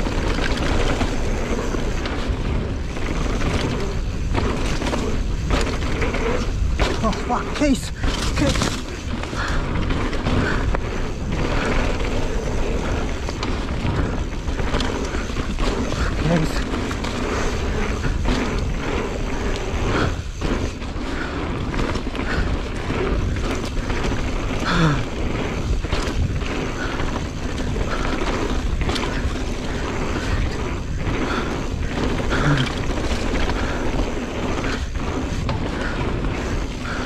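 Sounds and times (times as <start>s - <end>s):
bike rattling over bumps: 0.0s - 37.0s
mountain bike rushing noise: 0.0s - 37.0s.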